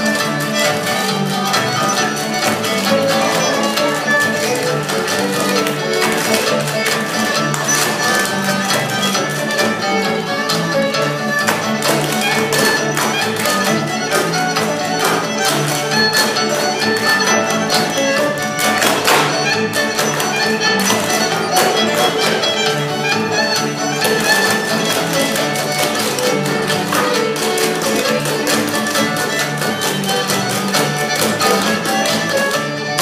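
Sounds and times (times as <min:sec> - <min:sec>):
string band music with fiddle: 0:00.0 - 0:33.0.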